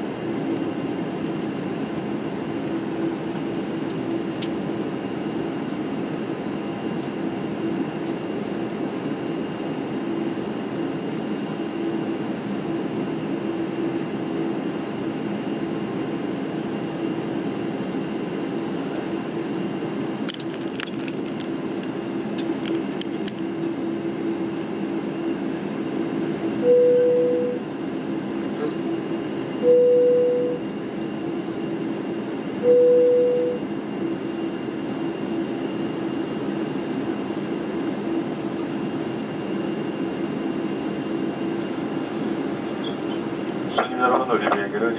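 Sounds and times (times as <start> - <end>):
aircraft engine hum in cabin: 0.0 - 44.9.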